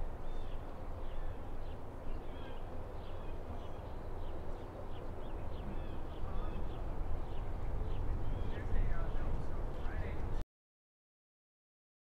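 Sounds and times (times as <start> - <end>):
small birds chirping: 0.2 - 10.4.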